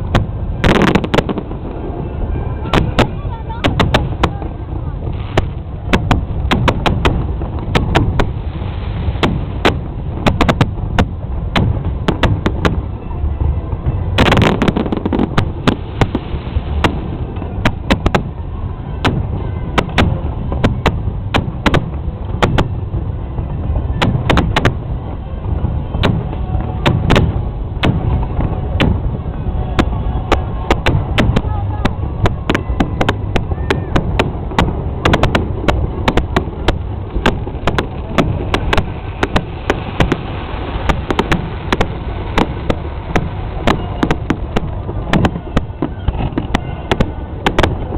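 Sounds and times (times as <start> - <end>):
fireworks bangs: 0.0 - 47.9
steady low rumble: 0.0 - 47.9.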